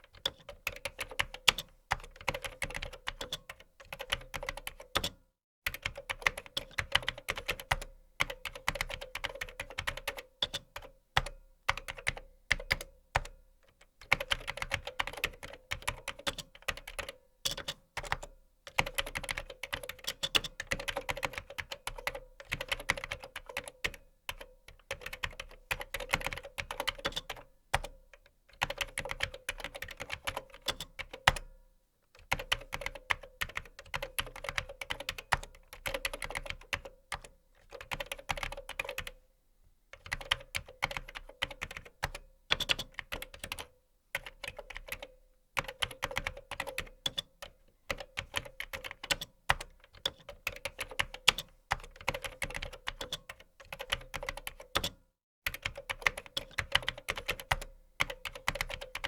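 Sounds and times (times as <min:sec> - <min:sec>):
computer keyboard typing: 0:00.1 - 0:13.4, 0:14.0 - 0:31.5, 0:32.2 - 0:39.2, 0:40.0 - 0:59.0.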